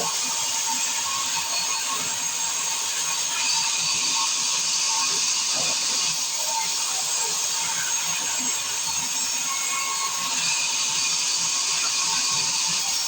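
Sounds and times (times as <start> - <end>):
circular saw running: 0.0 - 13.0.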